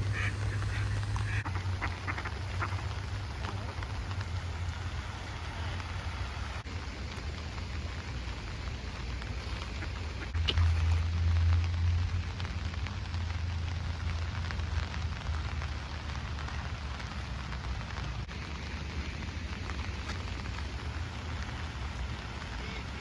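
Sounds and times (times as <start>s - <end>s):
low rumble: 0.0s - 22.4s
heavy rain pouring: 0.0s - 23.0s.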